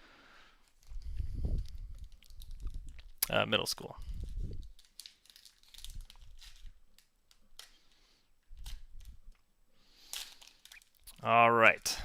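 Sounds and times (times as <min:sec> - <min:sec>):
cards and wrappers rustling: 0:00.6 - 0:11.2.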